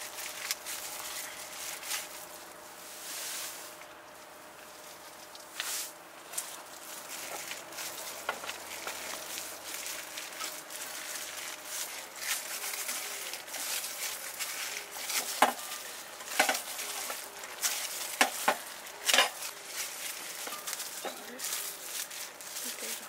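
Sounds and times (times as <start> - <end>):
dough squishing: 0.0 - 23.0
plastic glove crinkle: 0.0 - 23.0
steady hiss: 0.0 - 23.0.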